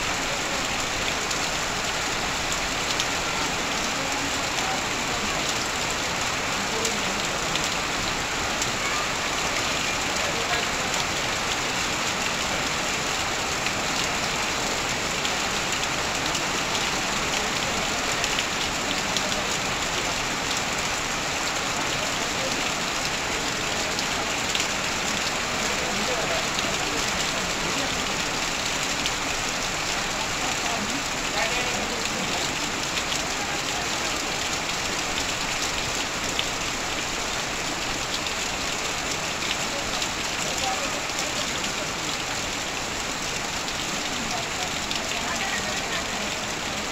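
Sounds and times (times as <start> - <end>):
heavy rain on metal roofing: 0.0 - 46.9
water pouring off roof: 0.0 - 46.9.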